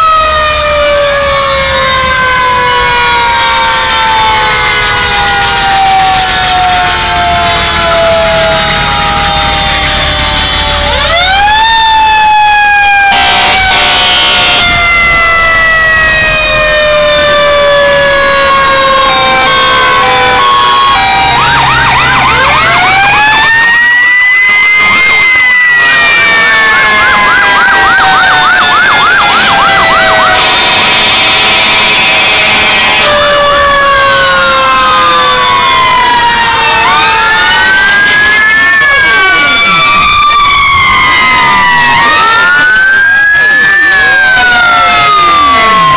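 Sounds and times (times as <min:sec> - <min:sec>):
siren rising sweeps: 0:00.0 - 0:45.9
siren winding down: 0:00.0 - 0:45.9.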